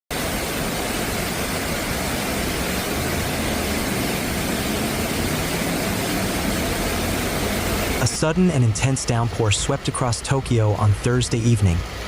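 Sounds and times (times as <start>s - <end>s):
heavy rain rushing: 0.1s - 12.0s.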